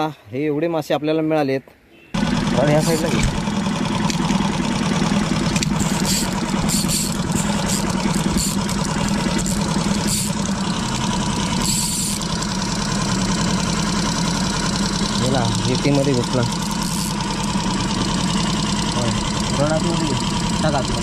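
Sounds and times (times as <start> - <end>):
boat engine humming: 1.9 - 21.0.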